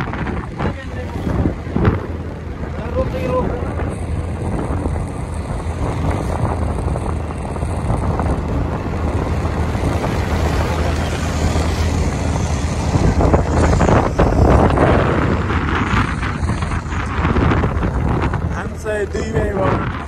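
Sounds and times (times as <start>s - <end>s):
vehicle running rumble: 0.0s - 20.0s
wind on microphone: 0.0s - 20.0s.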